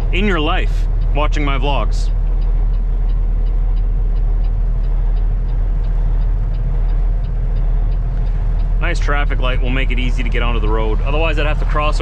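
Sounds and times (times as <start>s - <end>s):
faint even ticking: 0.0s - 12.0s
road noise: 0.0s - 12.0s
truck diesel engine drone: 0.0s - 12.0s.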